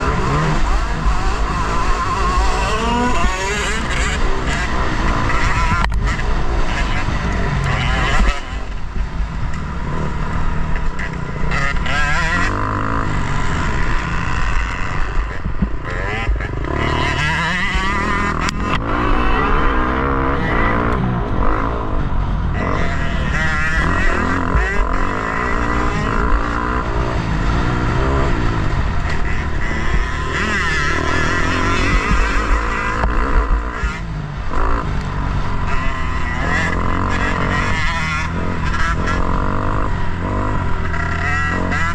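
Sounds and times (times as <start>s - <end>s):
motocross bike engine revving: 0.0s - 41.9s
wind noise: 0.0s - 41.9s.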